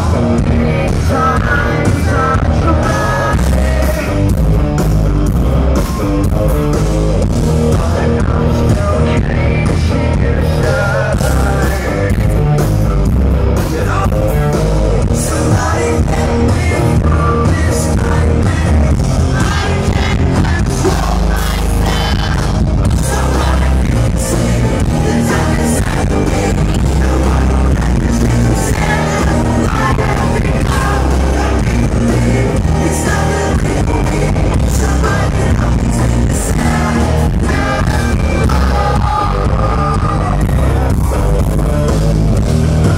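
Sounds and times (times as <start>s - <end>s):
bass guitar: 0.0s - 42.9s
distorted electric guitars: 0.0s - 42.9s
drums: 0.0s - 42.9s
man singing lead vocals: 0.0s - 42.9s.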